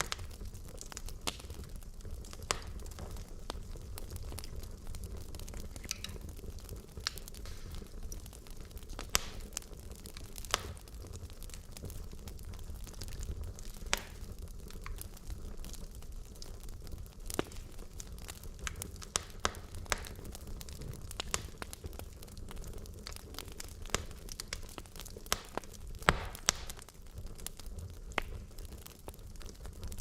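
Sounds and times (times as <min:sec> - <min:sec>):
logs crackling in fireplace: 0:00.0 - 0:30.0.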